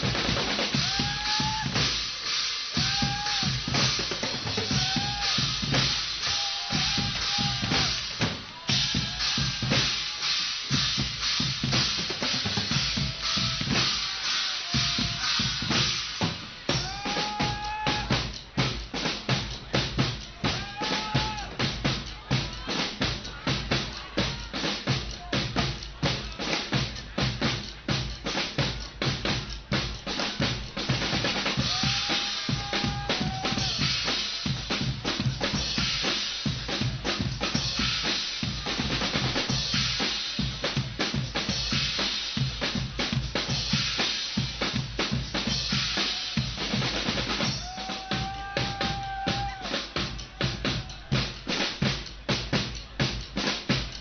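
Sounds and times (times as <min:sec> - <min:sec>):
carnival band playing: 0:00.0 - 0:54.0
fast driving drum beats: 0:00.0 - 0:54.0.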